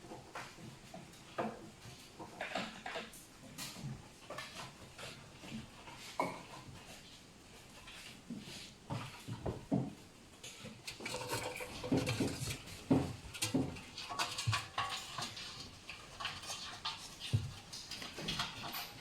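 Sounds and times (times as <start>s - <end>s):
raccoons scrabbling and knocking: 0.0s - 19.0s.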